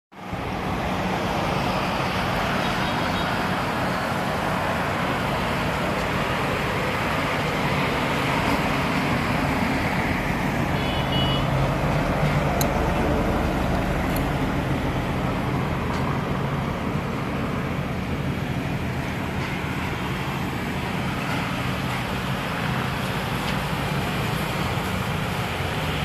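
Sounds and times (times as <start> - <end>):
highway traffic passing: 0.2 - 26.0
low engine hum: 3.4 - 26.0.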